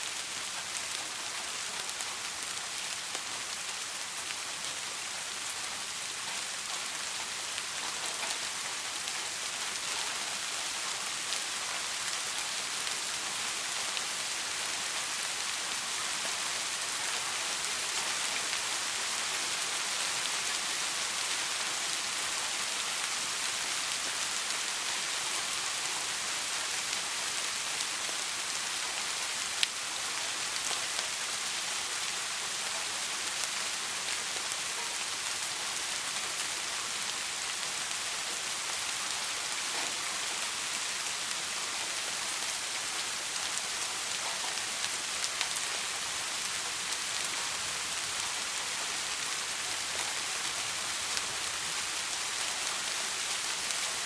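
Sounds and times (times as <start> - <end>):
soft rain hissing: 0.0 - 54.0.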